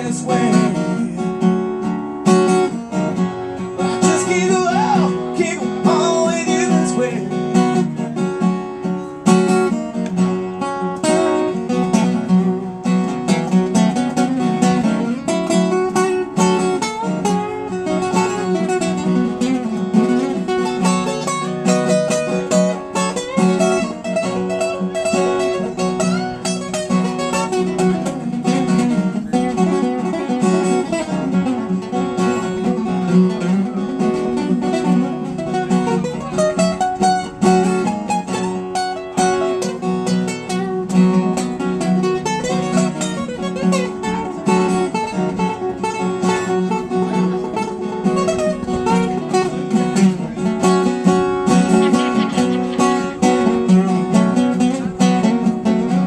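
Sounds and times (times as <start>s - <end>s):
acoustic guitar instrumental: 0.0s - 56.0s.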